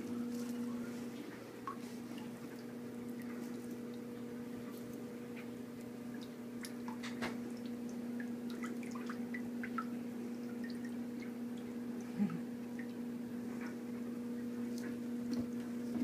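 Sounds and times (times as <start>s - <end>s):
bathwater dripping and splashing: 0.0s - 16.0s
steady low hum: 0.0s - 16.0s.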